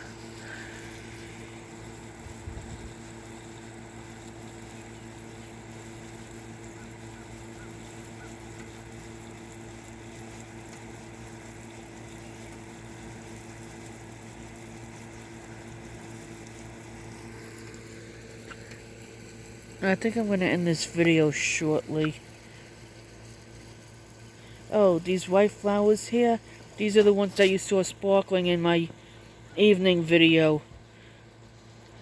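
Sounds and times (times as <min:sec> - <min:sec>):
air conditioner humming: 0:00.0 - 0:32.0.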